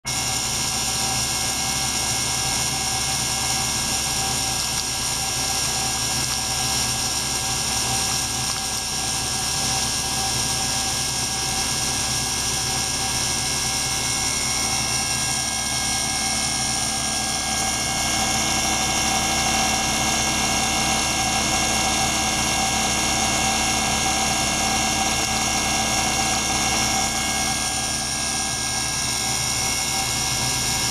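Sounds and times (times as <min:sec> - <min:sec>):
whirring hum with high tones: 0:00.0 - 0:30.9.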